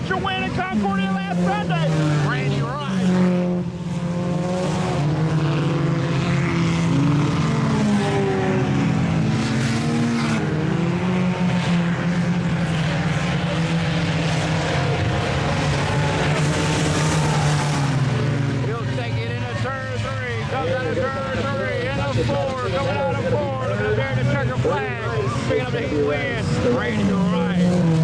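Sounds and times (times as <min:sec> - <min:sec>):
race car engines at speed: 0:00.0 - 0:28.0.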